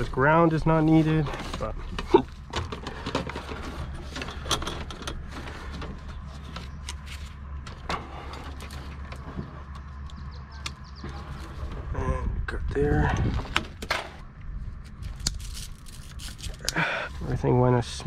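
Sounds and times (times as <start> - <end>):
cable handling clicks and rustles: 0.0 - 11.9, 13.1 - 16.8
steady low rumble: 0.0 - 18.0.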